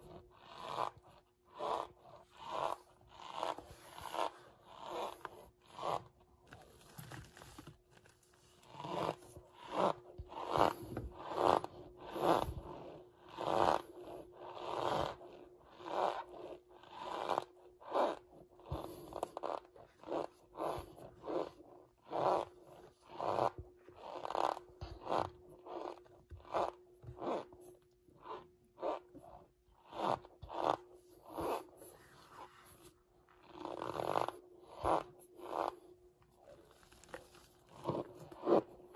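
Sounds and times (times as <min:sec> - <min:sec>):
person chewing and crunching: 0:00.0 - 0:31.8, 0:33.3 - 0:38.9.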